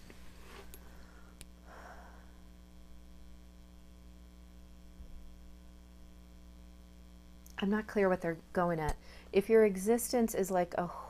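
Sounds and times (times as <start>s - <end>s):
low electrical mains hum: 0.0s - 11.0s.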